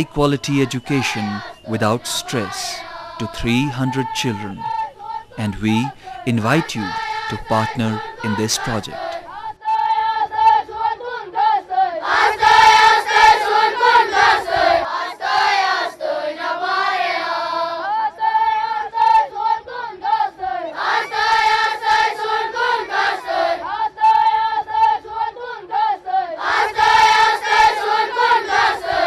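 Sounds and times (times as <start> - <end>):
children singing in a group: 0.4 - 29.0.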